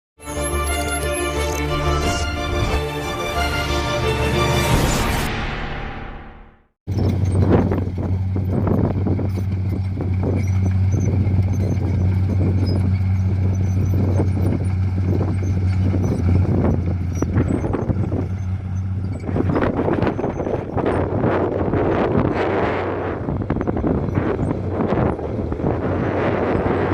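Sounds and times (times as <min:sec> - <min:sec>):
diesel engine droning: 0:00.2 - 0:26.9.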